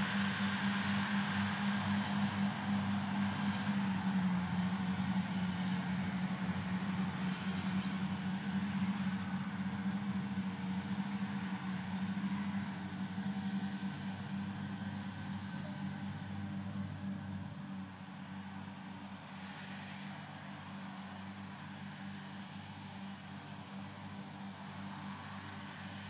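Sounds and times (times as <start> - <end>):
tractor engine drone: 0.0 - 26.0
low hum: 1.0 - 22.8.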